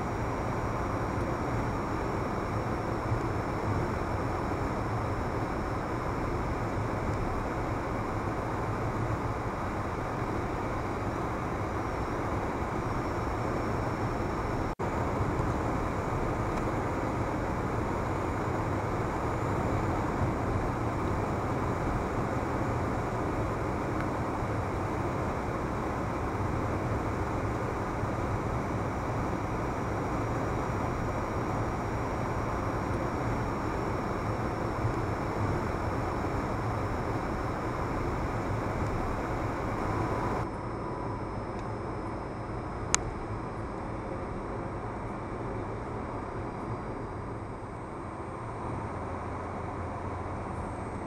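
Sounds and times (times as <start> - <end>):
car road and engine noise: 0.0 - 41.7, 42.3 - 51.0.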